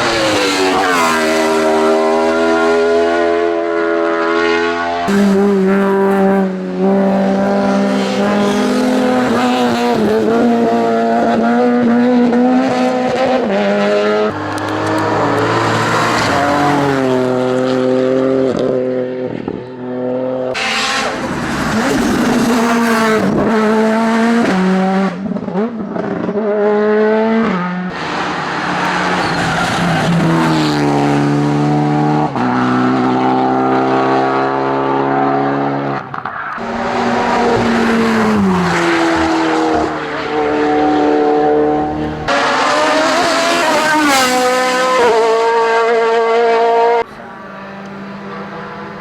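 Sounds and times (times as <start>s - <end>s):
racing car engines revving: 0.0s - 49.0s.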